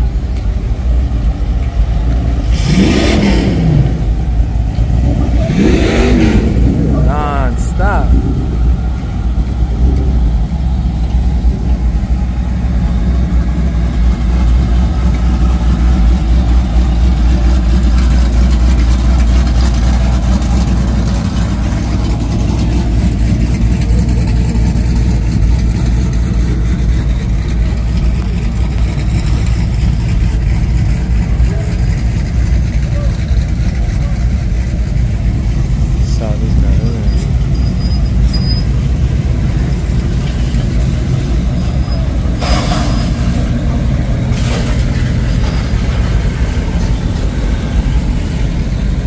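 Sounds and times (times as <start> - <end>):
pickup truck engines rumbling: 0.0 - 49.0.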